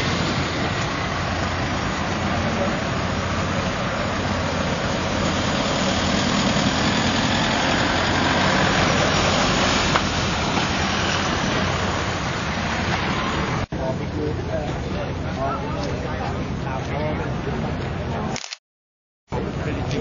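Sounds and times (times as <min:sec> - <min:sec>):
vehicles driving slowly past: 0:00.0 - 0:18.3.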